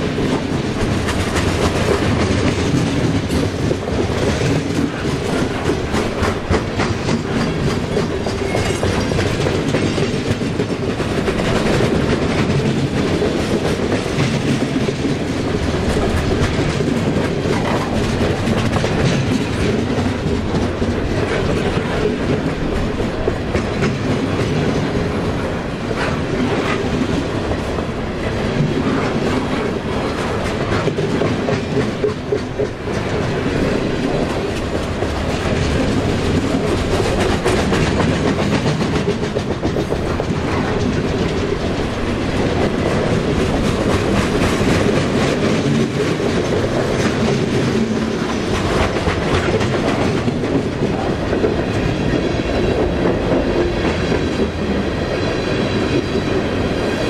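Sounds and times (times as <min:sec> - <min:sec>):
train wheels clacking over rail joints: 0:00.0 - 0:57.0.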